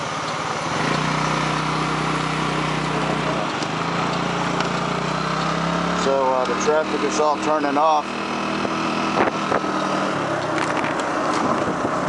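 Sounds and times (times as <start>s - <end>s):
motorcycle engine pulling away: 0.1s - 12.0s.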